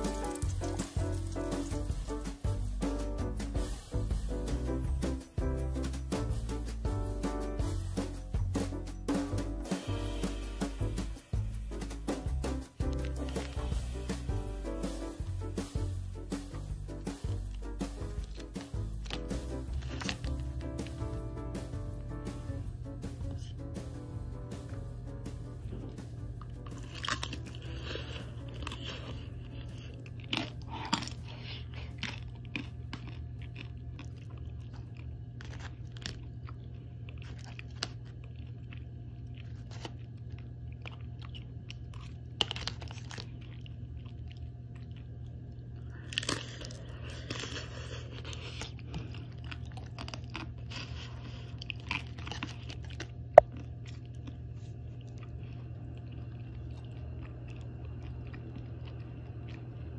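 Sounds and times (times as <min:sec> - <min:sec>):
person chewing crunchy food: 0:00.0 - 0:22.1, 0:25.6 - 0:59.9
steady low hum: 0:00.0 - 0:59.9.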